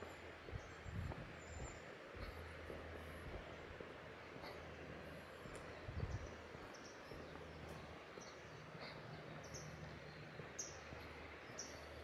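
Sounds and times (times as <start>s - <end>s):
bird chirping: 0.0s - 12.0s
steady low rumble: 0.0s - 12.0s.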